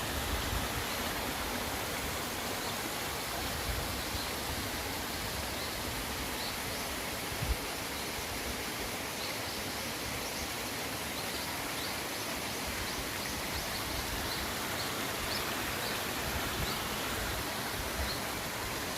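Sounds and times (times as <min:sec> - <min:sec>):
mountain stream rushing: 0:00.0 - 0:18.9.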